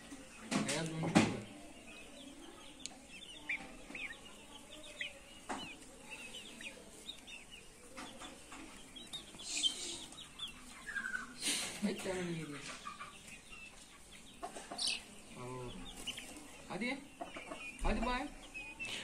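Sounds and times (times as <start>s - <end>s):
chicken clucking: 0.0s - 19.0s
chicks peeping: 0.0s - 19.0s.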